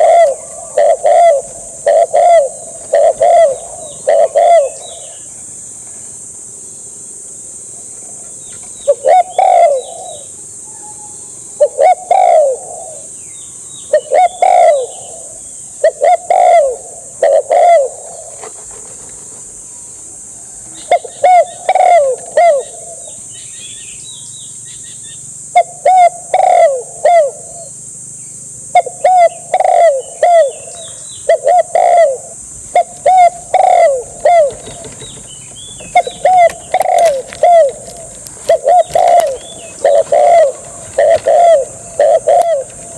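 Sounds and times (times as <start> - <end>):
dove cooing: 0.0 - 5.6, 8.0 - 11.0, 11.6 - 13.2, 13.9 - 19.7, 20.4 - 23.2, 25.6 - 27.7, 28.8 - 42.9.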